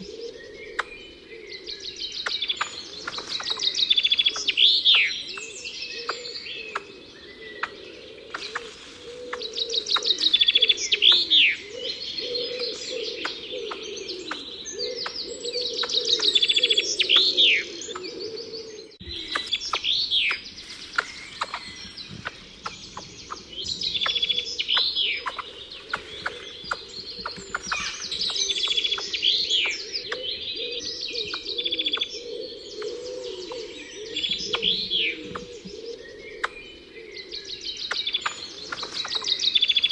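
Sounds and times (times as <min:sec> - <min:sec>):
low steady bird warbling: 0:00.0 - 0:39.9
songbirds chirping and trilling: 0:00.0 - 0:39.9.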